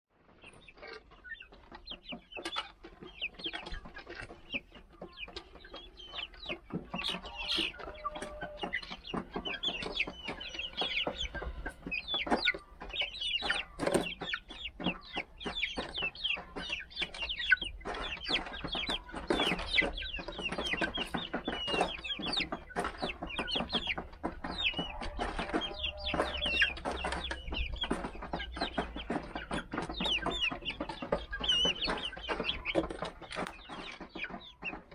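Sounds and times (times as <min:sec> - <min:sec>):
chicks cheeping and clucking: 0:00.2 - 0:34.9.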